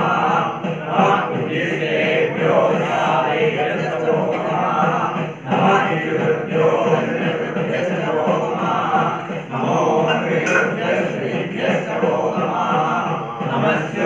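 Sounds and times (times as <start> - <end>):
priests chanting in unison: 0.0 - 14.0.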